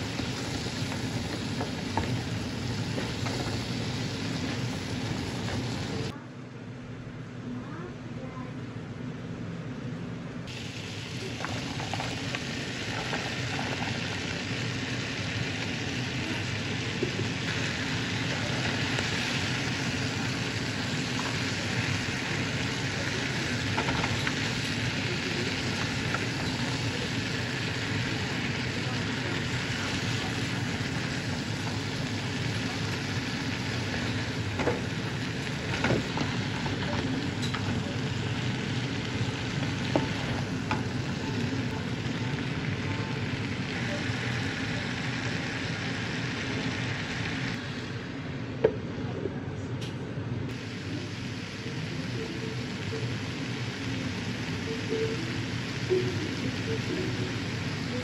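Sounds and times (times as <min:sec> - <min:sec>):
food sizzling in a frying pan: 0:00.0 - 0:06.2, 0:10.5 - 0:48.0, 0:50.5 - 0:58.0.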